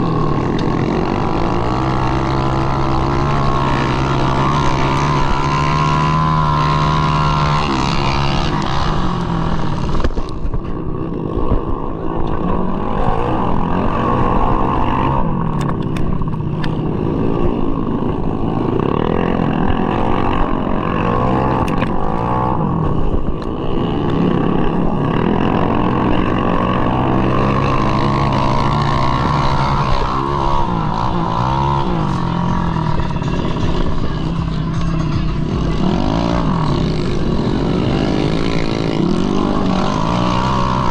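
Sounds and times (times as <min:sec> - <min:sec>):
scooter engine racing: 0:00.0 - 0:40.9.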